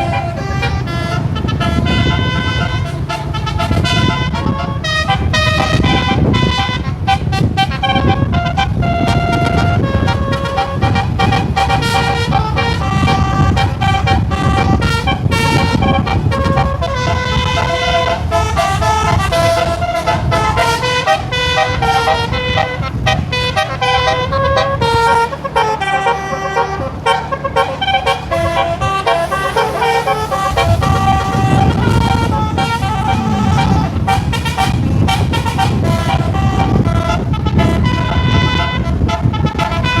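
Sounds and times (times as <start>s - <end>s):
low rumble of moving bus: 0.0s - 40.0s
multi-tone musical air horn: 0.0s - 40.0s.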